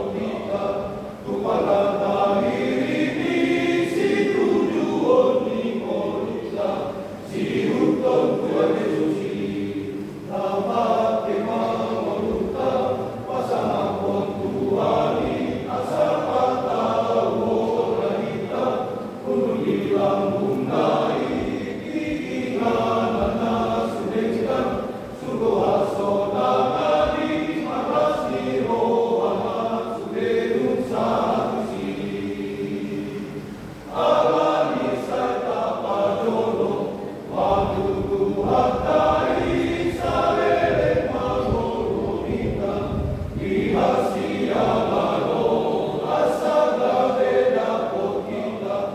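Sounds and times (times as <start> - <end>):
men's choir singing: 0.0 - 48.9.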